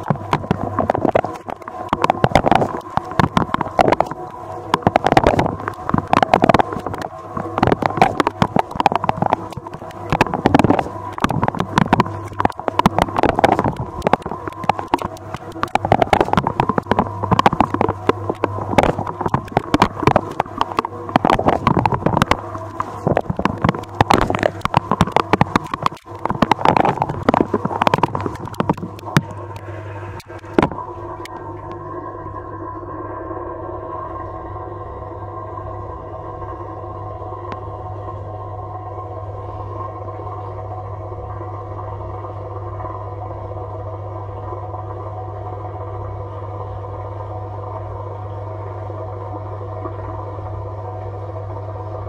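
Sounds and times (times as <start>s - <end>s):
pump motor hum: 0.0s - 52.0s.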